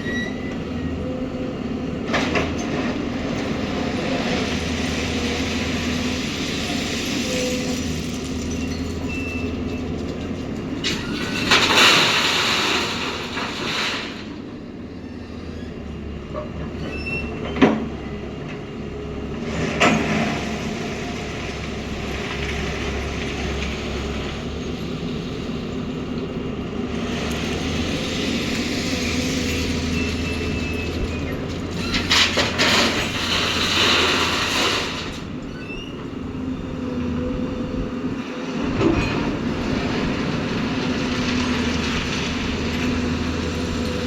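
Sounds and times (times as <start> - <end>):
diesel engine running: 0.1 - 44.0.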